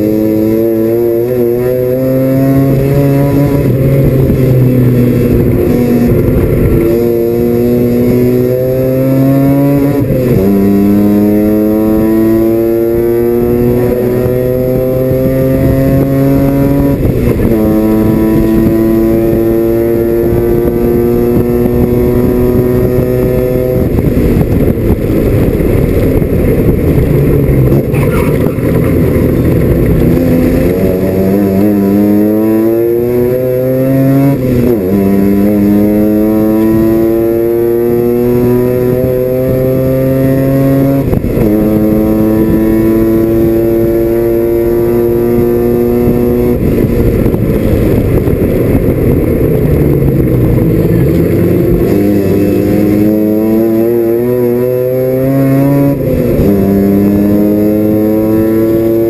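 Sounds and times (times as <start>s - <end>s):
rotary engine at full throttle: 0.0s - 59.0s.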